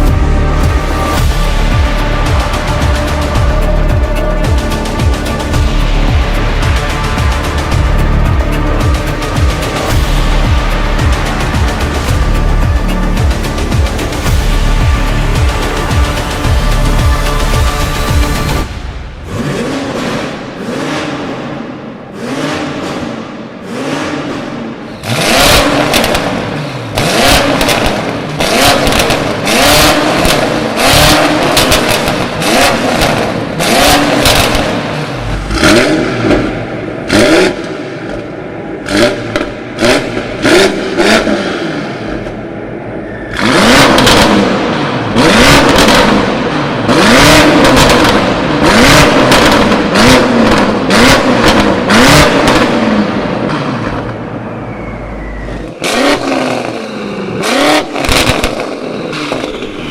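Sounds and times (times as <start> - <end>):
car engine revving: 0.0 - 59.9
exhaust cracks: 0.0 - 59.9.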